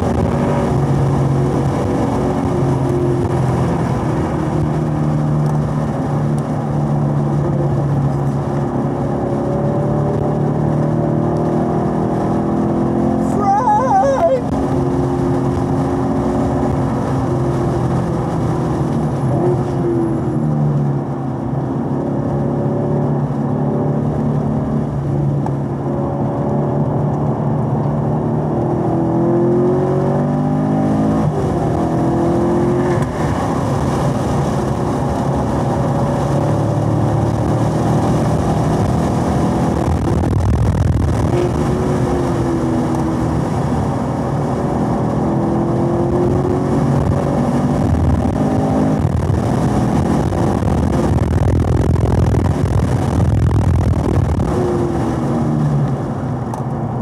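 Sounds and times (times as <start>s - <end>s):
car engine running hard: 0.0s - 57.0s.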